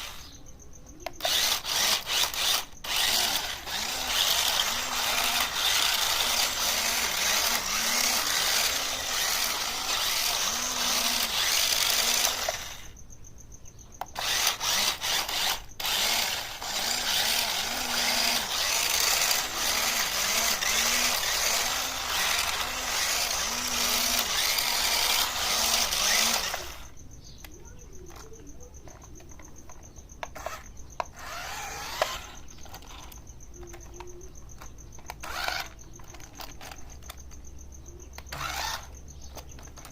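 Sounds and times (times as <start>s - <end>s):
toy car electric motors whirring: 0.0s - 0.4s, 1.0s - 13.0s, 14.0s - 39.9s.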